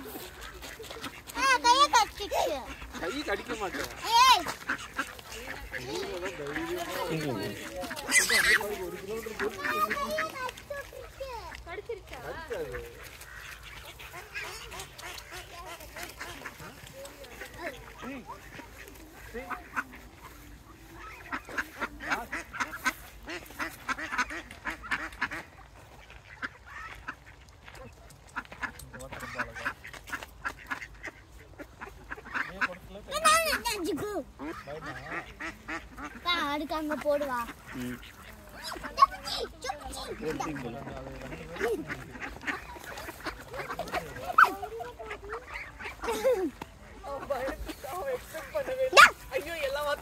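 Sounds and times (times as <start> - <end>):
ducks quacking: 0.0 - 50.0.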